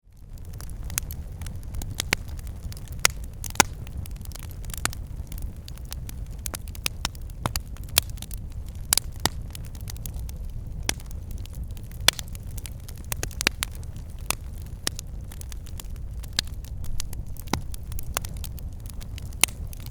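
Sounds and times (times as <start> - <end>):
low fire rumble: 0.0 - 19.9
wood fire crackling and popping: 0.0 - 19.9.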